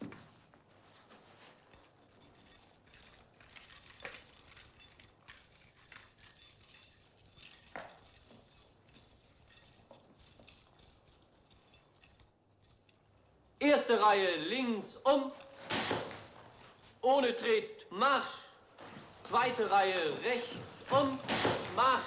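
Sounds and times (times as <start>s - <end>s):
shackles and chain clinking: 0.0s - 22.0s.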